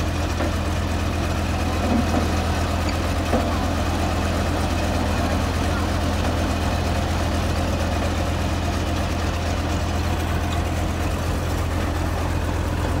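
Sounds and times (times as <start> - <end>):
road roller diesel engine humming: 0.0 - 13.0.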